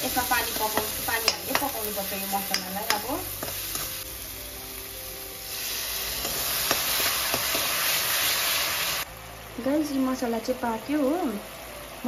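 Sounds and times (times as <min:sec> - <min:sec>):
spice masala sizzling in a pan: 0:00.0 - 0:12.0
water hissing in hot pan: 0:00.0 - 0:12.0.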